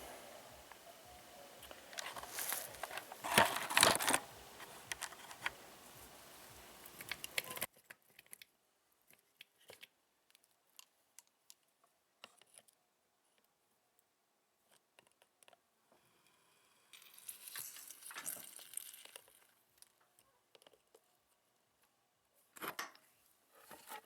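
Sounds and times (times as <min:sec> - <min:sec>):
rustling and handling noises: 0:00.0 - 0:13.6, 0:17.0 - 0:24.0
low background noise: 0:00.0 - 0:24.0.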